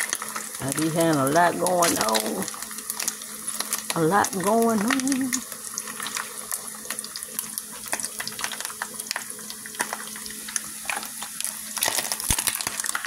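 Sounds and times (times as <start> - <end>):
bacon sizzling and crackling: 0.0 - 13.0.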